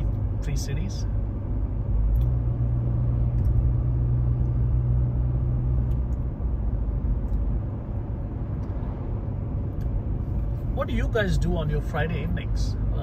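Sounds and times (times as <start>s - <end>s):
car cabin road rumble: 0.0s - 13.0s
deep engine hum: 0.0s - 13.0s.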